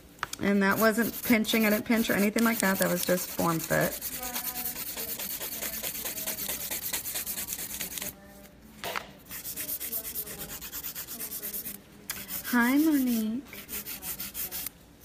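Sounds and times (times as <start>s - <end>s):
nail file rubbing on nail: 0.7s - 8.1s, 9.3s - 14.7s.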